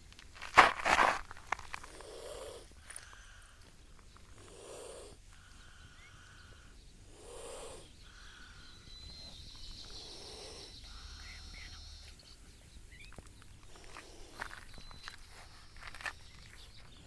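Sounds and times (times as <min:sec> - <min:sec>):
chameleon hissing: 0:01.6 - 0:12.2, 0:13.6 - 0:17.0.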